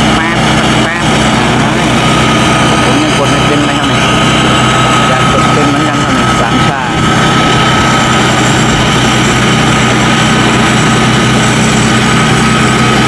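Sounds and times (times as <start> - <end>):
combine harvester engine running: 0.0 - 13.0
steady high whine: 0.0 - 13.0.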